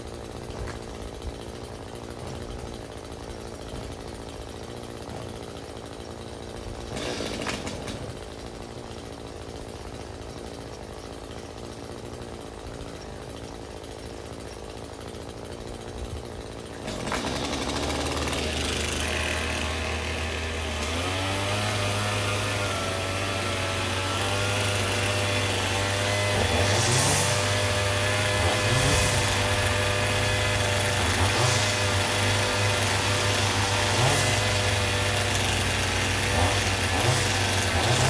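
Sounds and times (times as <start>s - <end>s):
small two-stroke engine running: 0.0s - 38.0s.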